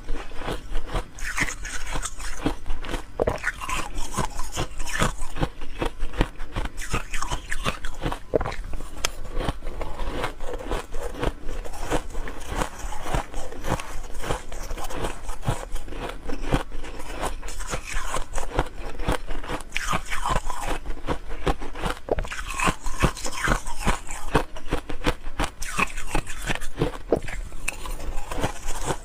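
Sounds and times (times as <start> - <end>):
person chewing ice: 0.0 - 29.0.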